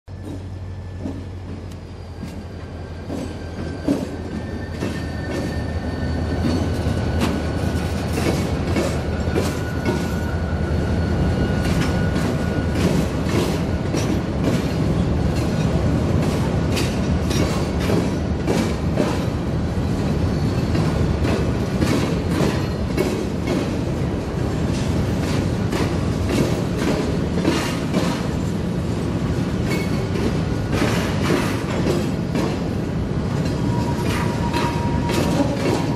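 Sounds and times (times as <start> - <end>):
train wheels clicking over rail joints: 0.1 - 35.9.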